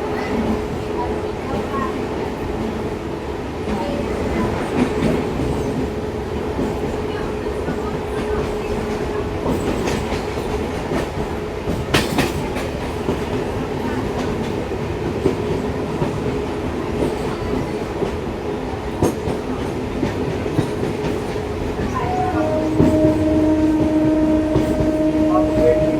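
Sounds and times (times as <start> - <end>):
train rumbling along track: 0.0 - 25.9.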